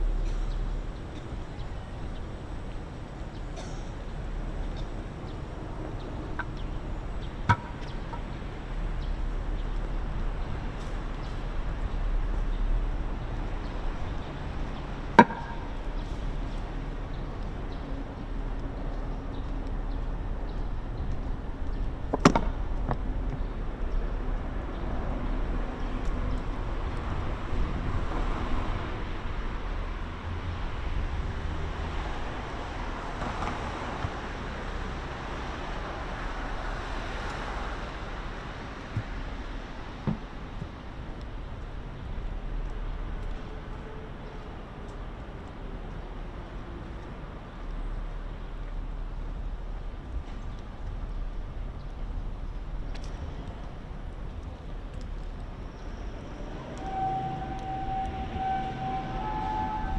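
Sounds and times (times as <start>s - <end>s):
city traffic rumble: 0.0s - 59.9s.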